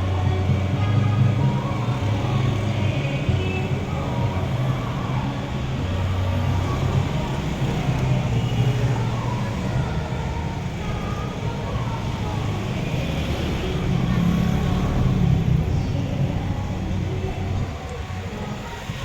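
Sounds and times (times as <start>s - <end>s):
people's voices: 0.0s - 19.0s
vehicle engine humming: 0.0s - 19.0s.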